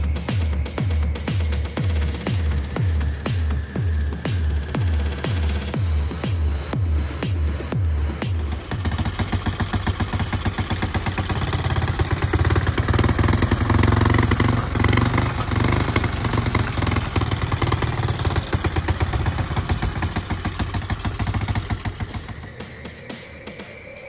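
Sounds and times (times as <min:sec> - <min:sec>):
small engine running: 0:00.0 - 0:23.2.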